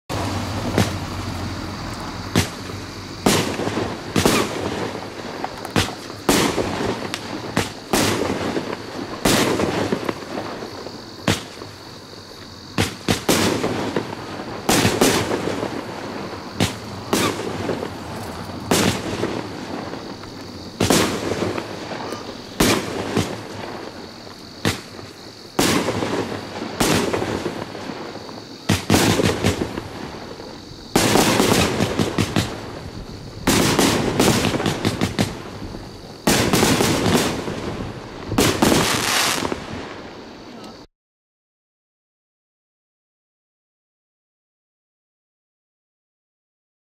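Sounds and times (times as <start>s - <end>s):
firework cake bangs: 0.1s - 1.4s, 2.2s - 11.8s, 12.7s - 39.8s.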